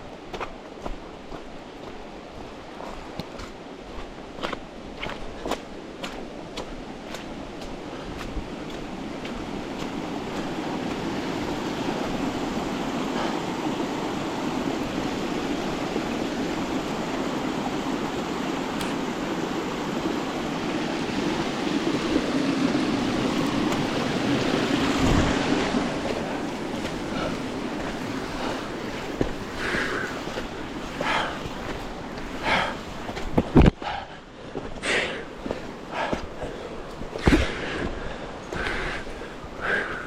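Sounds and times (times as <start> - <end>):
river water rushing over rocks: 0.0 - 40.0.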